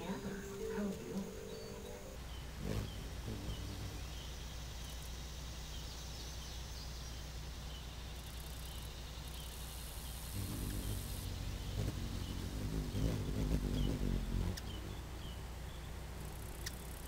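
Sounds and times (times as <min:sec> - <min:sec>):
faint insect and bird chirps: 0:00.0 - 0:17.0
hummingbird wings humming: 0:00.0 - 0:17.0
steady low hum: 0:00.0 - 0:17.0.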